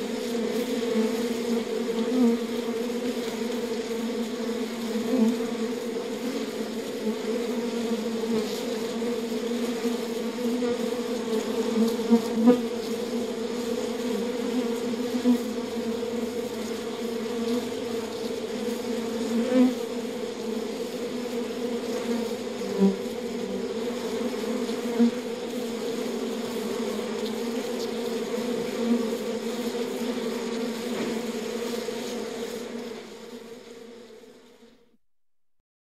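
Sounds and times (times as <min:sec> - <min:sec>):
bees buzzing: 0:00.0 - 0:34.7.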